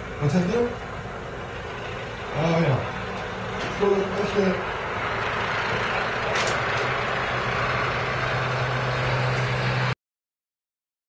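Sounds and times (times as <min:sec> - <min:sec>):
helicopter rotor and turbine: 0:00.0 - 0:10.0.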